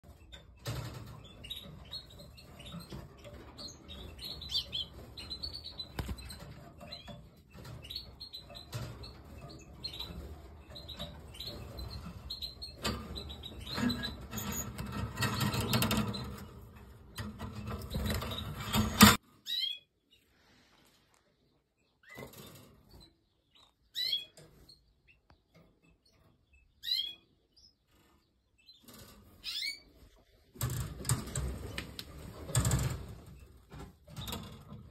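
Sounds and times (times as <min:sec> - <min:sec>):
canaries chirping: 0:00.0 - 0:20.4, 0:21.3 - 0:34.9.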